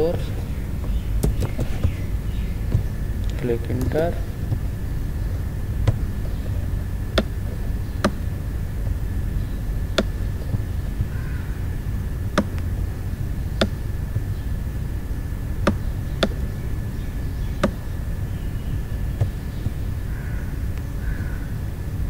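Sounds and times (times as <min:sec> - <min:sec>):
faint high whine: 0:00.0 - 0:22.0
low background rumble: 0:00.0 - 0:22.0.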